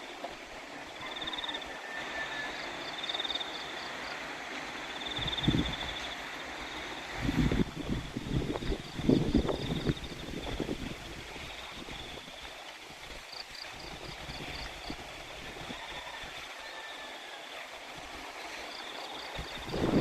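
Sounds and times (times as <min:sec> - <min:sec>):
flowing water hiss: 0:00.0 - 0:20.0.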